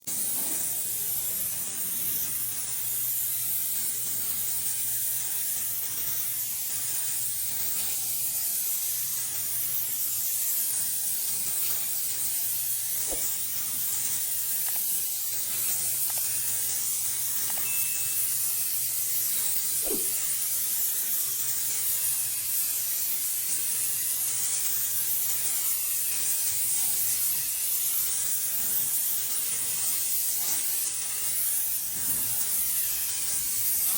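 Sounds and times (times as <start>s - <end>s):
paint sprayer hissing: 0.1s - 33.9s.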